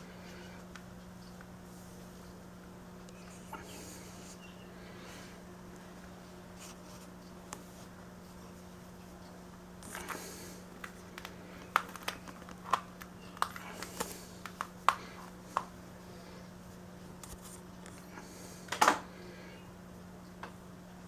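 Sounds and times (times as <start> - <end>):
fan motor humming: 0.0 - 21.0.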